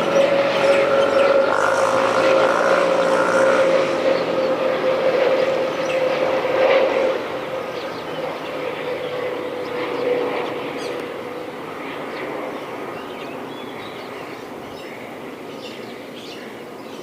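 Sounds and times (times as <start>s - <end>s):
jet engine drone: 0.0s - 17.0s.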